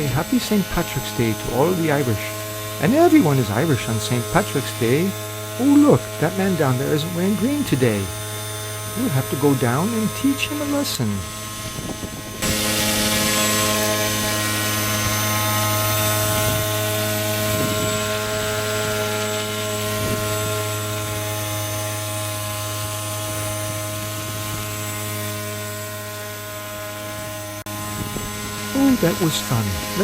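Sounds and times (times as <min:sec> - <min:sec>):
electric motor propeller buzzing: 0:00.0 - 0:30.0.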